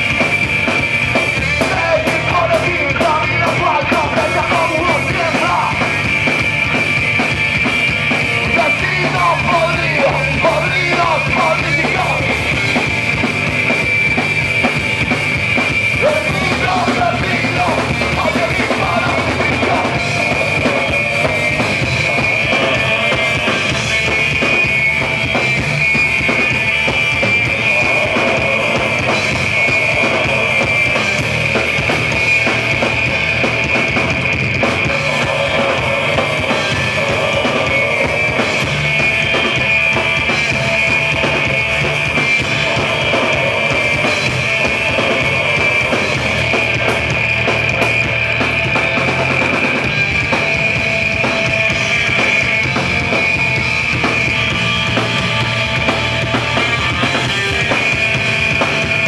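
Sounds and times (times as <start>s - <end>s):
bass guitar: 0.0s - 59.0s
driving drum kit: 0.0s - 59.0s
electric guitar: 0.0s - 59.0s.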